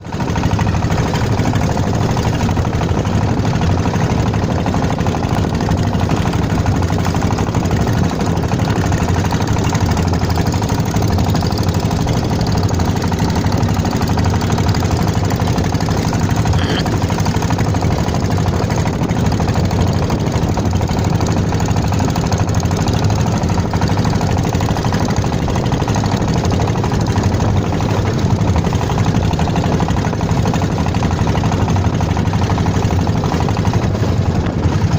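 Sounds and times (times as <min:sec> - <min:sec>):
motorboat engine knocking: 0:00.0 - 0:34.9.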